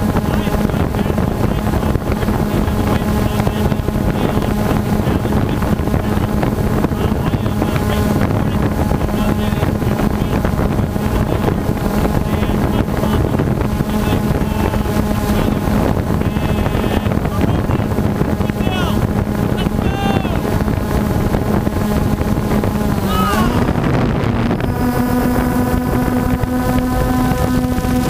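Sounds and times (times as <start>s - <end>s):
drone buzzing hum: 0.0s - 28.0s.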